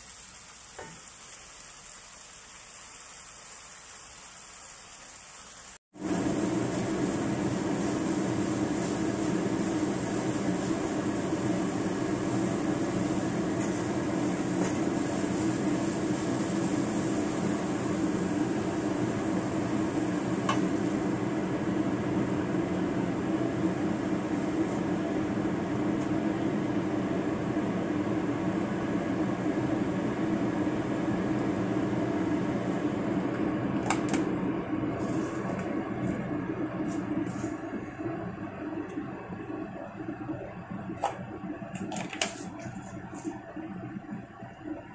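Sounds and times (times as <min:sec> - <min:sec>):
kitchen fan humming: 0:00.0 - 0:44.9.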